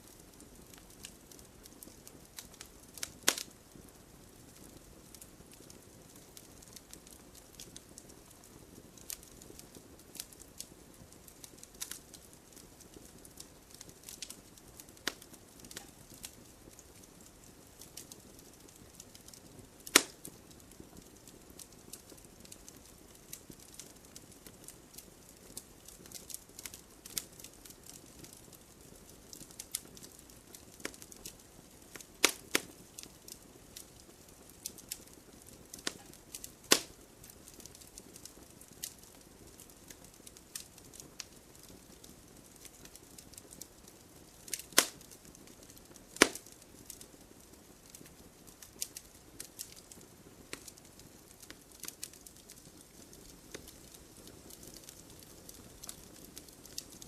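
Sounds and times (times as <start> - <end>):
campfire crackling: 0.0 - 57.0
fire pops and snaps: 0.1 - 57.0.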